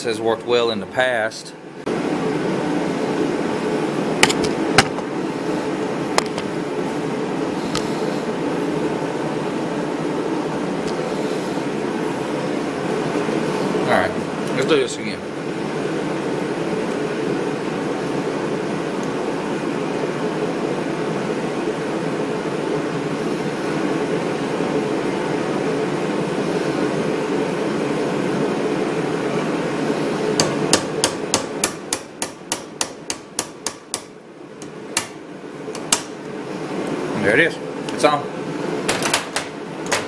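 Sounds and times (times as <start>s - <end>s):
steady background noise: 0.0s - 40.0s.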